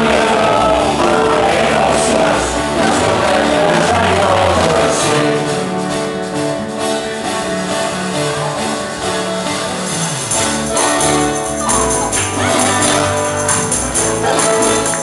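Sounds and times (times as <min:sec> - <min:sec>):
live band playing: 0:00.0 - 0:15.0
people singing into microphones: 0:00.0 - 0:15.0.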